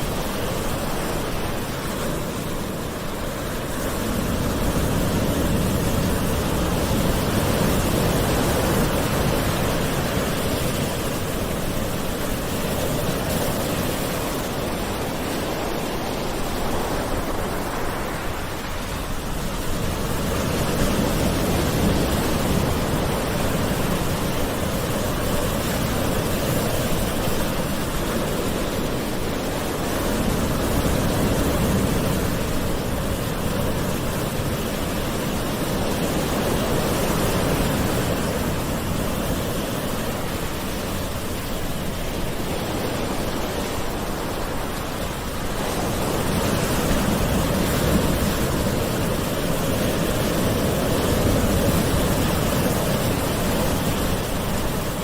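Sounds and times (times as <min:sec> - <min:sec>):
gentle sea waves washing ashore: 0:00.0 - 0:55.0.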